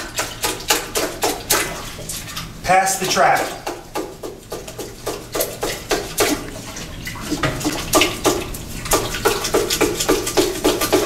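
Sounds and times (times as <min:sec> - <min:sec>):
toilet water splashing and sloshing: 0:00.0 - 0:11.0.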